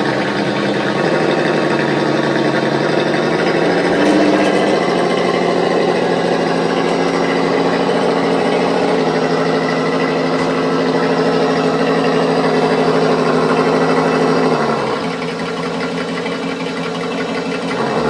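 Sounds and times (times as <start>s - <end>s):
simulated engine sound from speaker: 0.0s - 18.0s.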